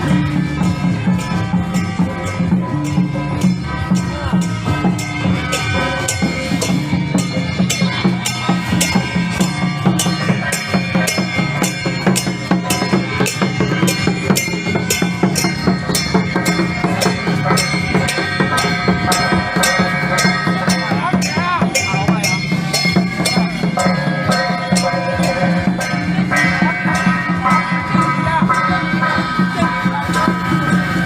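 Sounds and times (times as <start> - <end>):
droning melody: 0.0 - 31.0
drums and percussion beating: 0.0 - 31.0.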